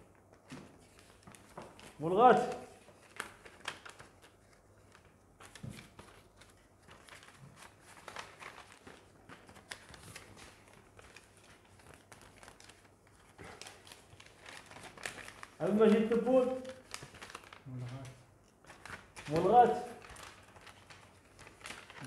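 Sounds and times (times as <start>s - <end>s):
paper rustling and crinkling: 0.0s - 22.0s.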